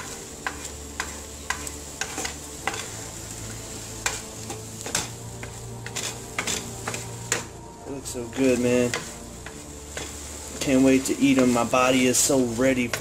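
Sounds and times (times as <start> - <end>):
eggs sizzling in a pan: 0.0 - 13.0
wooden spatula scraping a pan: 0.0 - 13.0.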